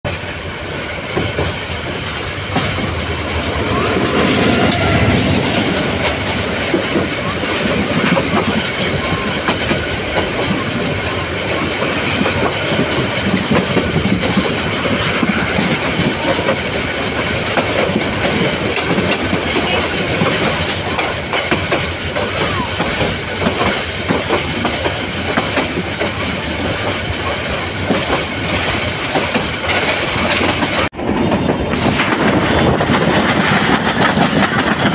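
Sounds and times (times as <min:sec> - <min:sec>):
train rumbling on track: 0:00.0 - 0:34.9
wheels clacking over rail joints: 0:00.1 - 0:34.9.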